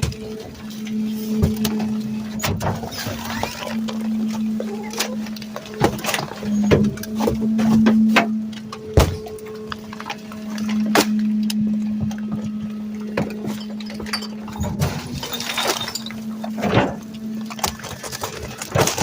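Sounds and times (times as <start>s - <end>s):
hydraulic packer humming: 0.0s - 19.0s
trash cracking and popping: 0.0s - 19.0s.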